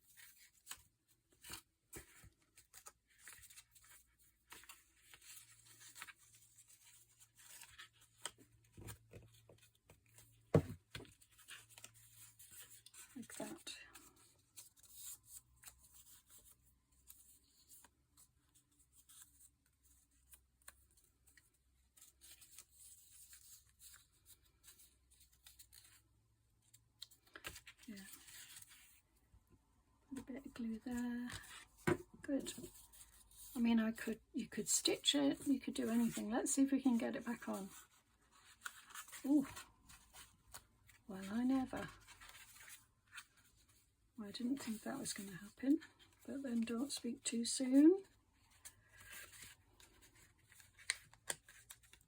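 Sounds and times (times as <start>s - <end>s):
paper and card rustling: 0.0s - 29.0s, 30.2s - 52.0s.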